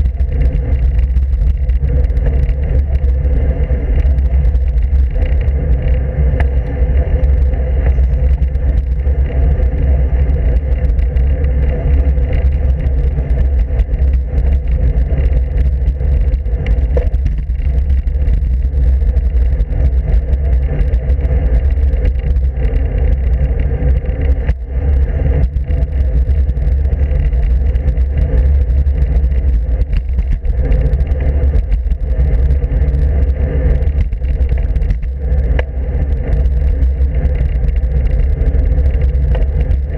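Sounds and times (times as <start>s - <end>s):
road rumble: 0.0s - 39.9s.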